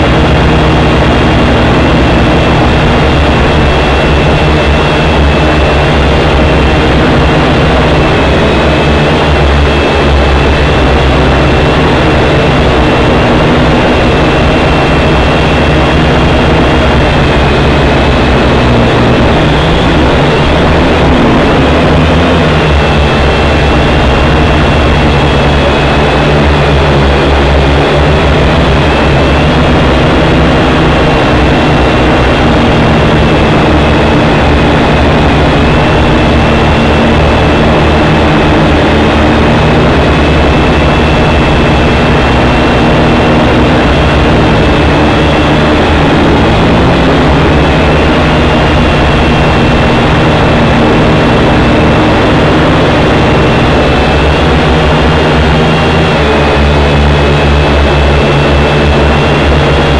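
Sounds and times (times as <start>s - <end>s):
quadcopter motors buzzing: 0.0s - 59.9s.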